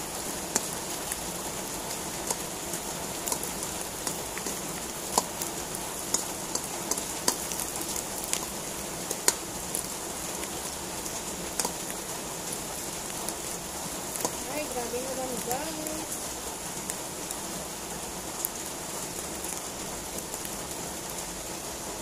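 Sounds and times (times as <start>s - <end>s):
mushrooms sizzling in hot oil: 0.0s - 22.0s.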